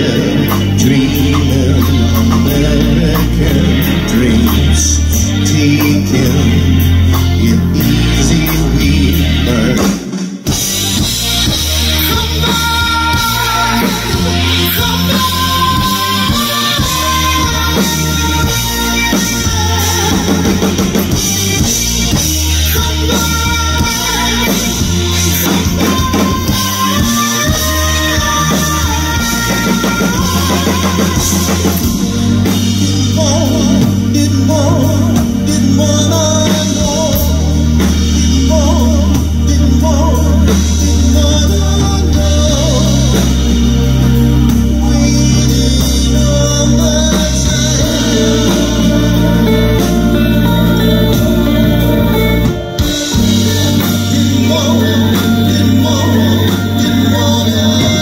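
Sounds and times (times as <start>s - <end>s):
man singing into microphone: 0.0s - 10.2s, 11.9s - 58.0s
bass notes: 0.0s - 58.0s
drum kit: 0.0s - 58.0s
guitar: 0.0s - 58.0s.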